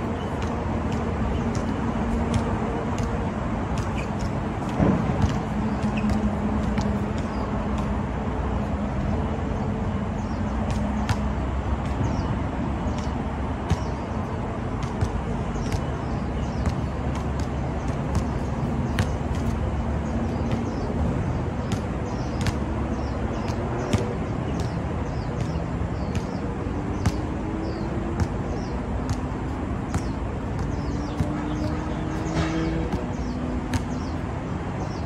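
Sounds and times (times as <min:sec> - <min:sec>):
basketball bouncing on hard court: 0:00.0 - 0:08.0, 0:10.3 - 0:14.1, 0:14.8 - 0:20.9, 0:21.6 - 0:34.2
traffic rumble: 0:00.0 - 0:35.0.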